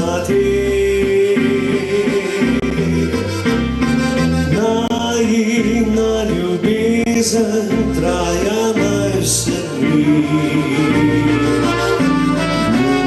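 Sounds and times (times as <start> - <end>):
man singing into a microphone: 0.0 - 3.4, 4.4 - 13.0
live band playing slow song: 0.0 - 13.0.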